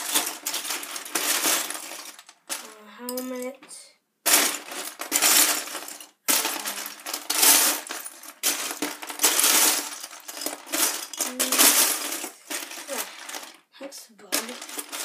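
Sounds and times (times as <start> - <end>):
plastic bricks clattering in bin: 0.0 - 3.5, 4.2 - 13.7, 14.3 - 15.0.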